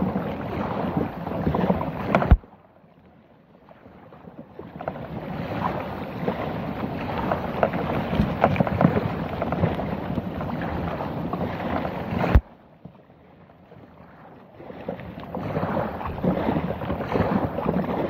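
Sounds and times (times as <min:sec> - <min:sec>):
plants scraping along kayak hull: 0:00.0 - 0:18.0.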